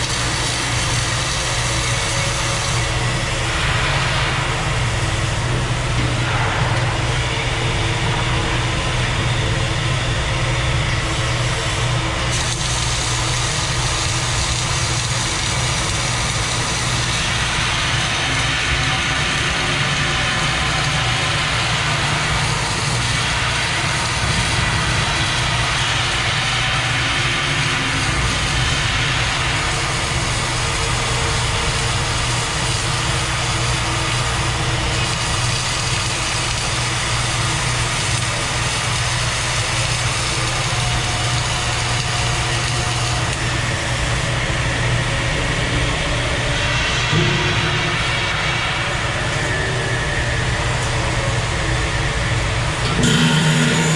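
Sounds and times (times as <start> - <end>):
arc welding crackling hiss: 0.0 - 46.1
low machine hum: 0.0 - 53.9.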